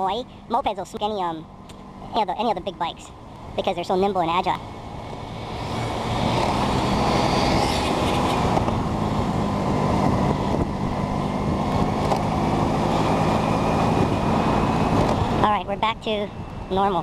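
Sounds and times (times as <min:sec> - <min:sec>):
moped engine running: 0:00.0 - 0:17.0
wind and road noise: 0:00.0 - 0:17.0.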